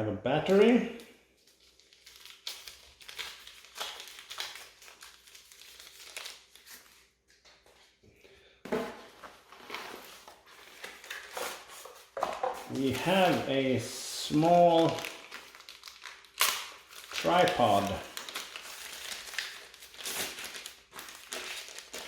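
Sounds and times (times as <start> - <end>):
packaging crinkling: 0.5 - 7.2, 9.3 - 22.0.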